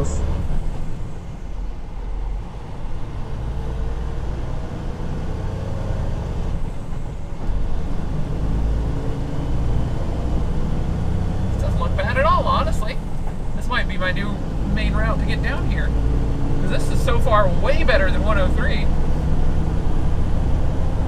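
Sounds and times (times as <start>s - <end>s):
road noise: 0.0s - 21.0s
truck diesel engine drone: 0.0s - 21.0s.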